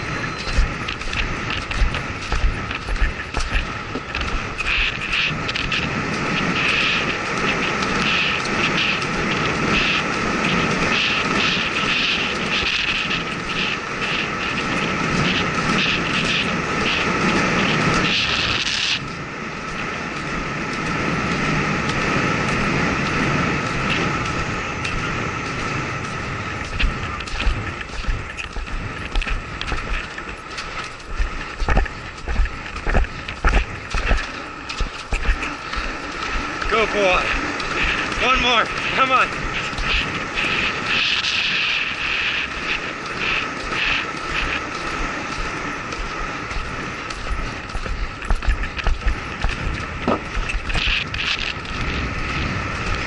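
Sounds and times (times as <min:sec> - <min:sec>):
horse galloping on grass: 0:00.0 - 0:53.0
wind rushing over microphone: 0:00.0 - 0:53.0.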